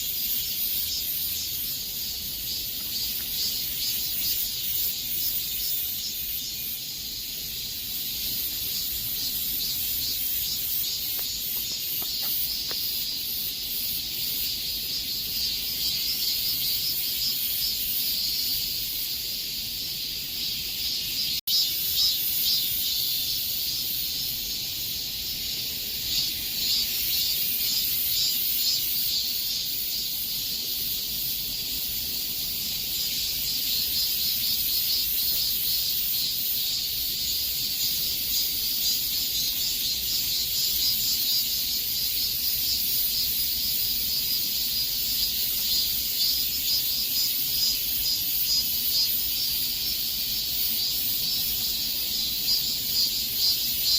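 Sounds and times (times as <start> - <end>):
cicadas singing: 0.0 - 53.9.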